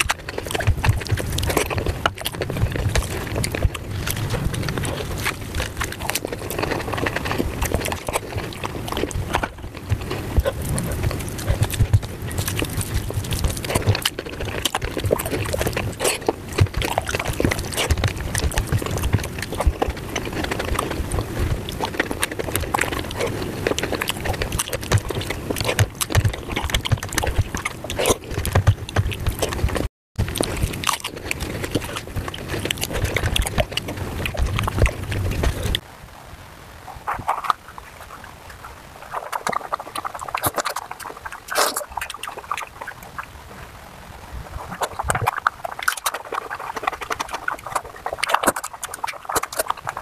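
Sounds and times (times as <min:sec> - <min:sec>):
wet chewing and smacking: 0:00.0 - 0:35.9, 0:36.9 - 0:50.0.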